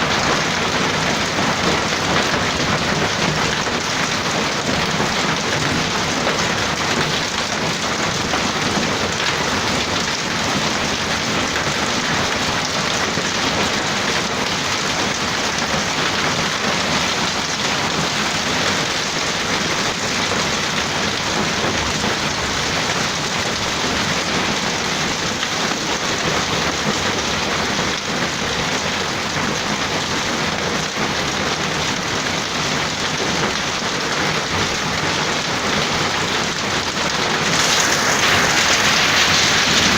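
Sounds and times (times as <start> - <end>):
hail and heavy rain pelting: 0.0 - 39.9.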